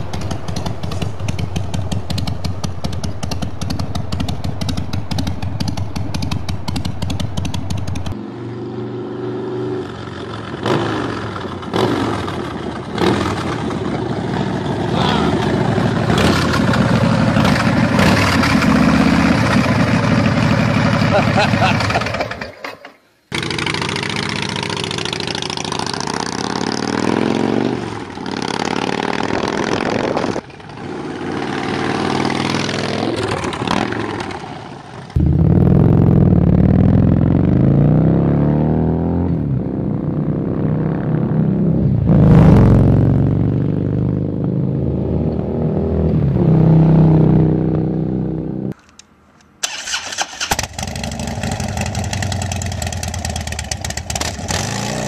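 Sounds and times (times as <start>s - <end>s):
motorcycle engine starting: 0.0s - 8.3s, 9.8s - 48.8s, 49.6s - 55.0s
motorcycle engines revving: 0.0s - 22.5s, 23.3s - 48.8s, 49.9s - 55.0s
motorcycle riding past: 0.0s - 22.5s, 23.3s - 48.8s.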